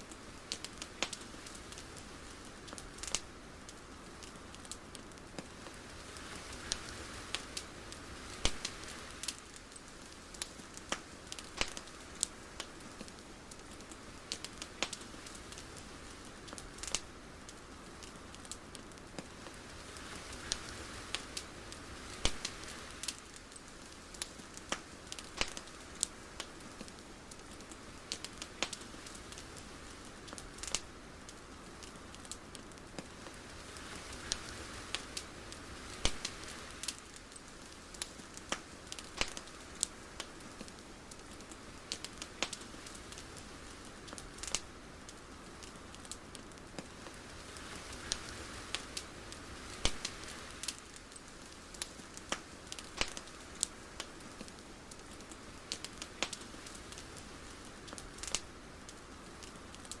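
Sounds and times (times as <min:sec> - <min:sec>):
sharp crackles and pops: 0:00.0 - 1:00.0
soft steady hiss: 0:00.0 - 1:00.0.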